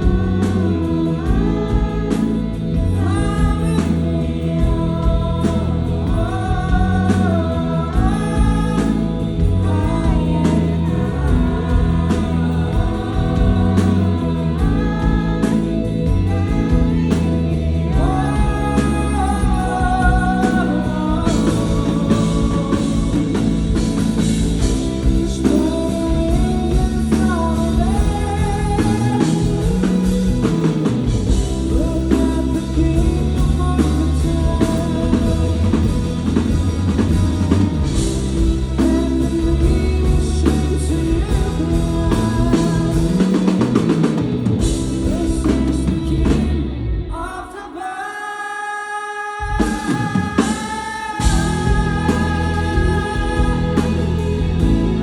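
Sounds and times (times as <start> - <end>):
rock band playing live: 0.0 - 47.8, 49.4 - 55.0
person singing lead vocal: 0.0 - 55.0.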